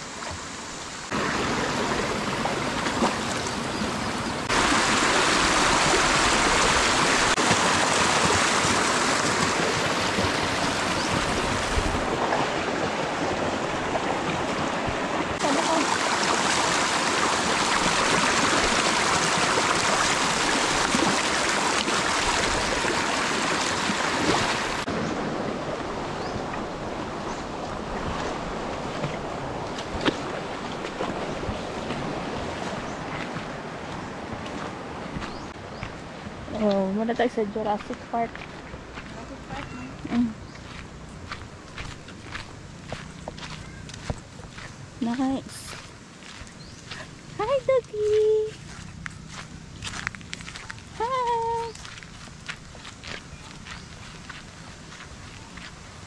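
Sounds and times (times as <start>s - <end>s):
stream rushing over rocks: 0.0s - 46.4s.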